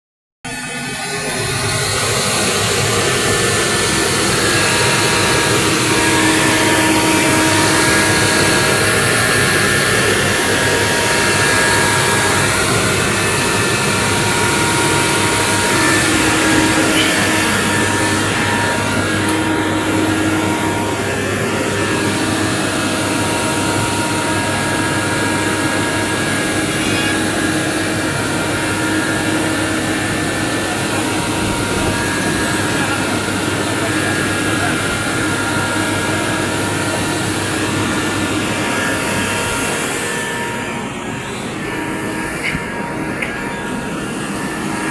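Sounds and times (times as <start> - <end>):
asphalt paver machinery running: 0.5 - 44.9
steady whining tones: 0.5 - 44.9.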